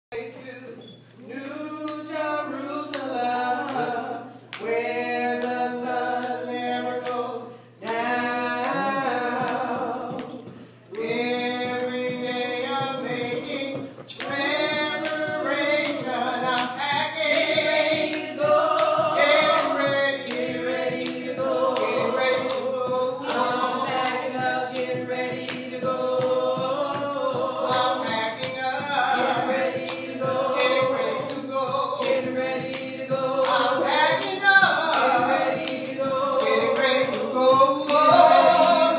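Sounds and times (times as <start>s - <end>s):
group singing a cappella: 0.2s - 38.9s.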